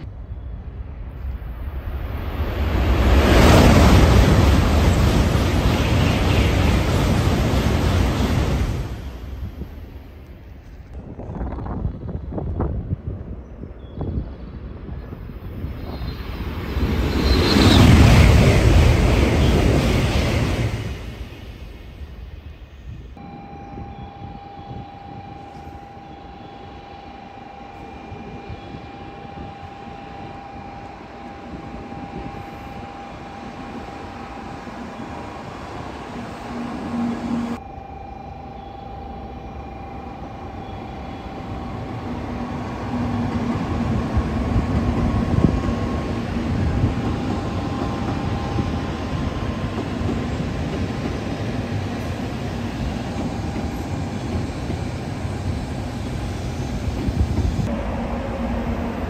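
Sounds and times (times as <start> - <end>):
train rumbling past: 0.0 - 13.4, 14.2 - 59.0.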